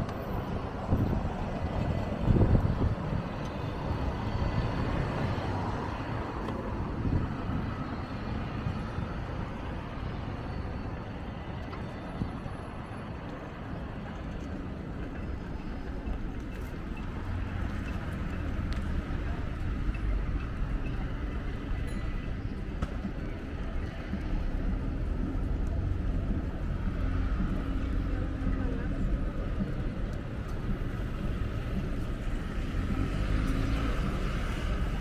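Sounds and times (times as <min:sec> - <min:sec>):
cars and buses passing: 0:00.0 - 0:35.0
low traffic rumble: 0:00.0 - 0:35.0.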